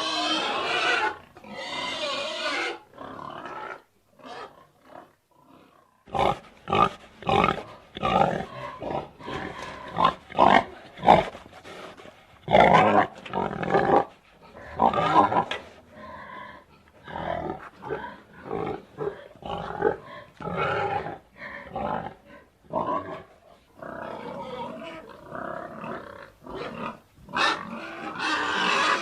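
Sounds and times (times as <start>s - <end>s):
pig squealing and grunting: 0.0s - 11.4s, 12.5s - 29.0s.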